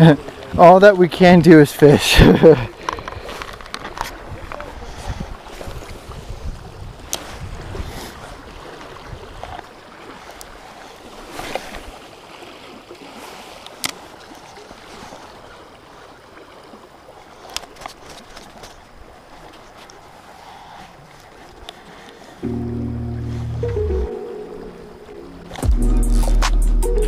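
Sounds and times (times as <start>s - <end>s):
river water flowing: 0.0s - 27.0s.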